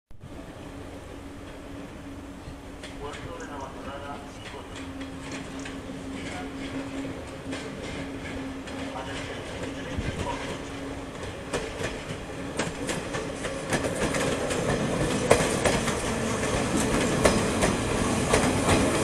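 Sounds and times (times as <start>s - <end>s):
electric train rumble: 0.2s - 19.0s
train wheels clicking on rails: 2.4s - 19.0s.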